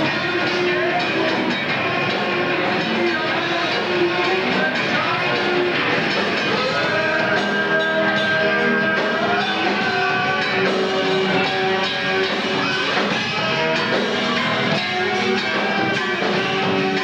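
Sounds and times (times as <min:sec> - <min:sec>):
electric guitar: 0:00.0 - 0:17.0
rock band playing: 0:00.0 - 0:17.0.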